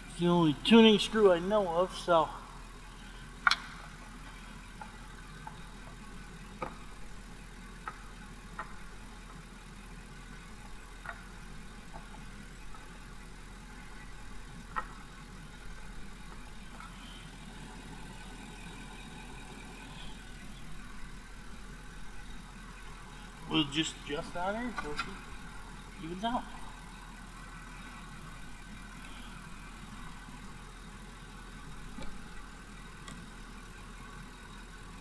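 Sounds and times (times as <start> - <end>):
pickup engine idling: 0.0 - 35.0.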